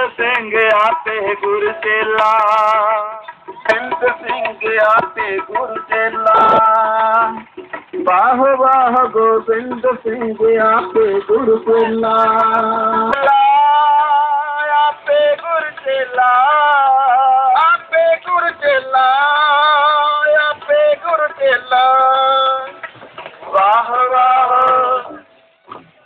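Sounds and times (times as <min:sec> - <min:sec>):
devotional hymn singing: 0:00.0 - 0:25.8.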